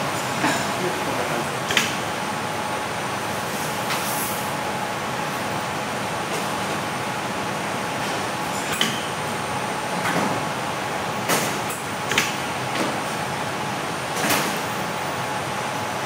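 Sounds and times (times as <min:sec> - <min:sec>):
machine and conveyor hum: 0:00.0 - 0:16.0.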